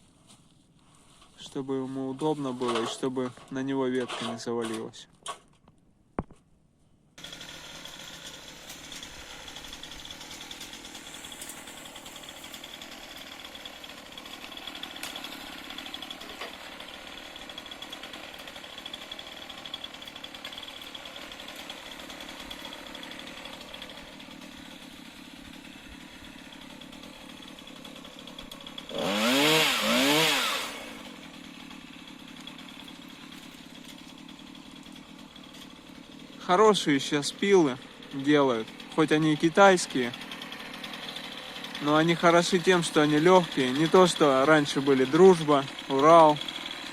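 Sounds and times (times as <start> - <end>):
chainsaw running and revving: 7.2 - 46.9.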